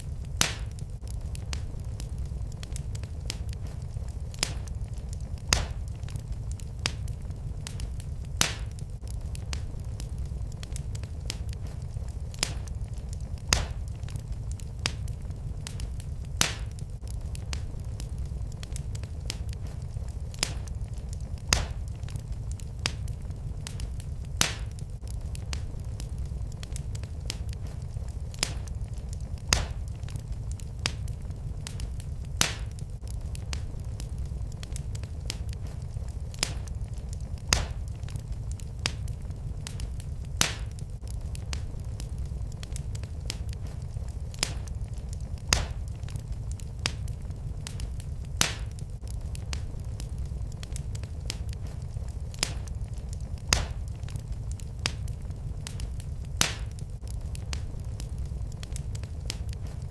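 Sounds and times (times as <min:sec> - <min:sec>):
wood fire burning: 0:00.0 - 0:59.9
wood popping and cracking: 0:00.2 - 0:59.9.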